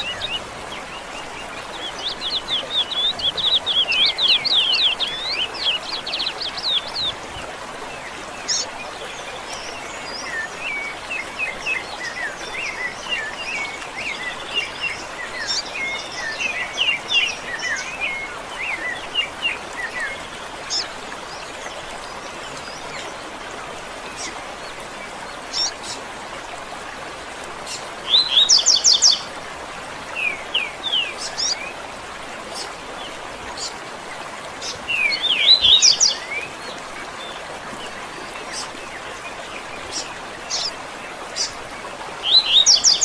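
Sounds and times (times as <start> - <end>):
running water hiss: 0.0 - 43.0
songbirds singing: 0.0 - 43.0.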